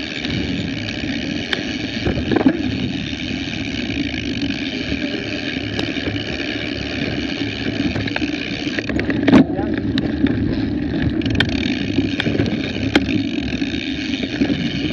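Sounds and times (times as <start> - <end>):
bike knocks and rattles: 0.0 - 14.9
mountain bike rushing rumble: 0.0 - 14.9.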